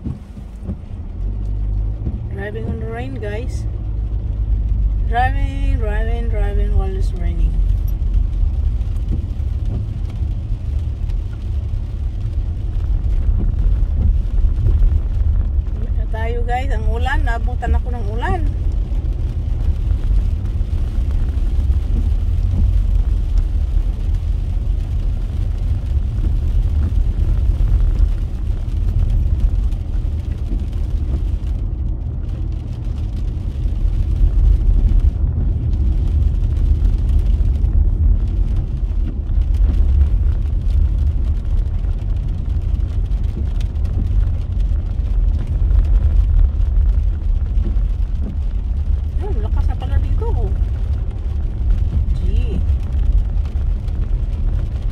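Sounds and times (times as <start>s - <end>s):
rain on wet road hiss: 0.0s - 54.9s
vehicle road rumble: 0.0s - 54.9s.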